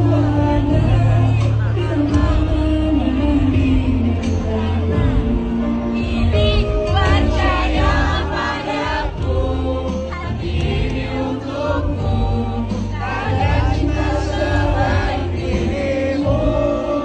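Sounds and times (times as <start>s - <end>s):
amplified instrumental accompaniment: 0.0s - 17.0s
voices singing a pop song: 0.0s - 17.0s.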